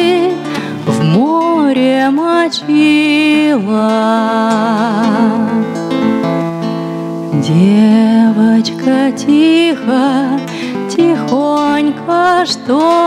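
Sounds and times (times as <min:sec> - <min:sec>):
woman singing with vibrato: 0:00.0 - 0:06.2, 0:07.3 - 0:13.0
classical guitar: 0:00.0 - 0:13.0.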